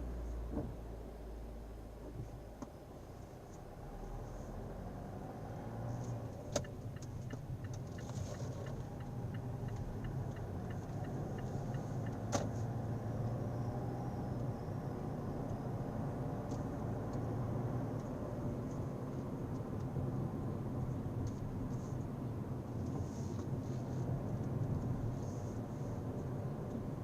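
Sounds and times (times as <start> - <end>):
car humming: 0.0 - 27.0.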